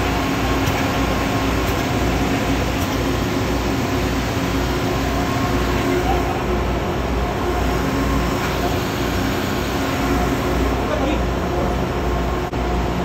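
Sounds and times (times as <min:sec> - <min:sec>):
steady machinery noise: 0:00.0 - 0:13.0.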